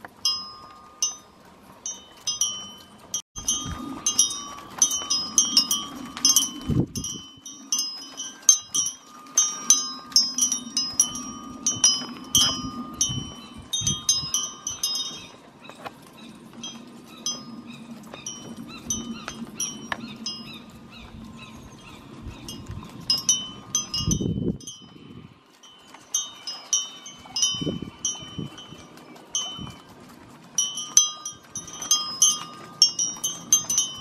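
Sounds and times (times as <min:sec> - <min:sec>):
chimes ringing: 0:00.2 - 0:29.9, 0:30.5 - 0:34.0.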